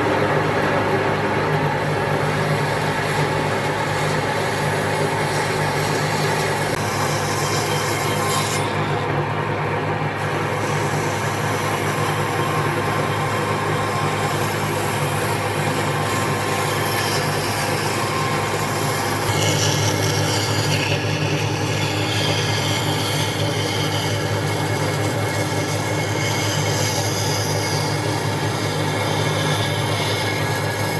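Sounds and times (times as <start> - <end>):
power tool running on wood: 0.0 - 30.9.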